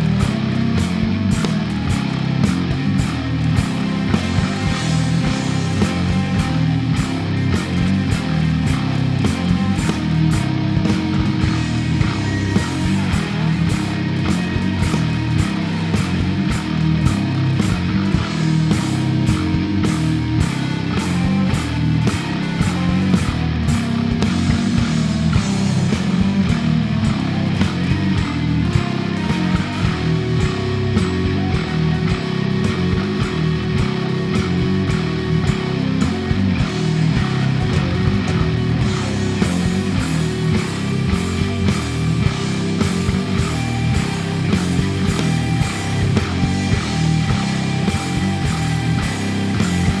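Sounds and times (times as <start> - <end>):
drum hits: 0.0 - 50.0
low bass guitar notes: 0.0 - 50.0.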